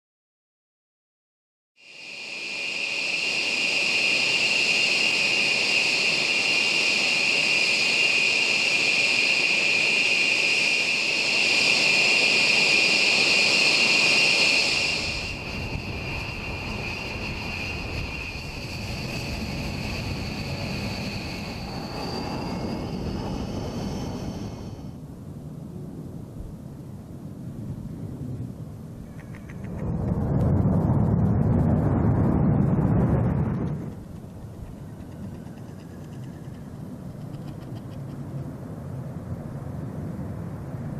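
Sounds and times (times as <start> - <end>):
jet engines whining: 1.8 - 25.1, 28.1 - 40.9
jet engine deep rumble: 1.8 - 40.9.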